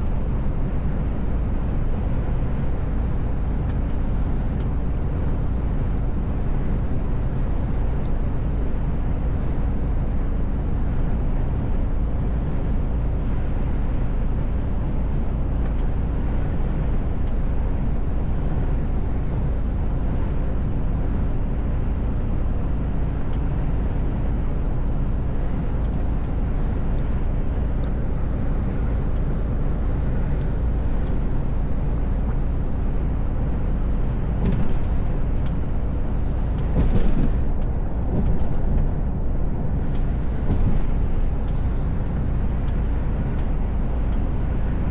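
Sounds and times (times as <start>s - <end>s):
truck engine and road noise: 0.0s - 44.9s.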